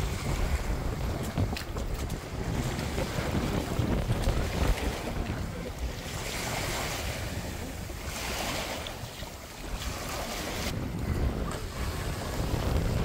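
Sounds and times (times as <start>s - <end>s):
small waves washing onto sand: 0.0s - 13.0s
wind buffeting microphone: 0.0s - 13.0s.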